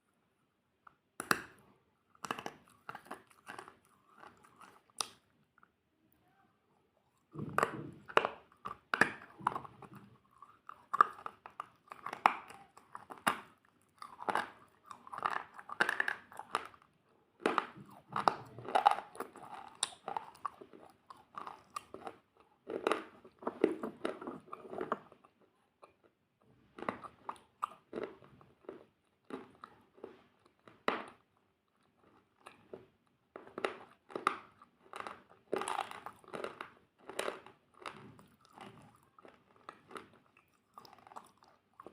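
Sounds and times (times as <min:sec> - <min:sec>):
chewing crunchy food: 0:00.9 - 0:05.8, 0:07.0 - 0:41.9.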